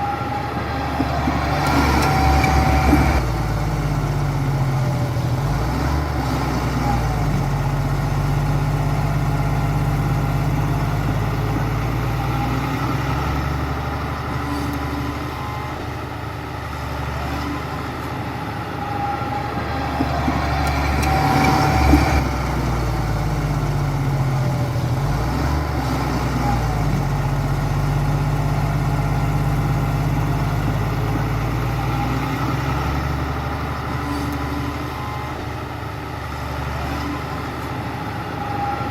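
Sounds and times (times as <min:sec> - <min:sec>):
diesel machine engine revving: 0:00.0 - 0:38.9.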